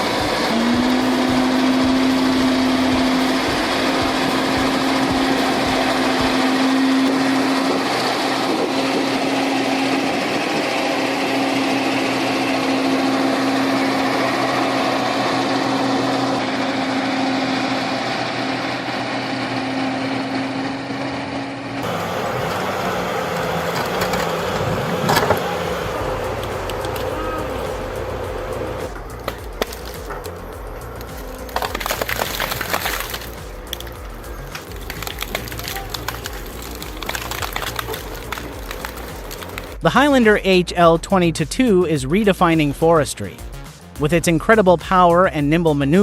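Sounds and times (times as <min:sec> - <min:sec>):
truck engine revving high: 0:00.0 - 0:44.0
rough engine sound: 0:00.0 - 0:46.0.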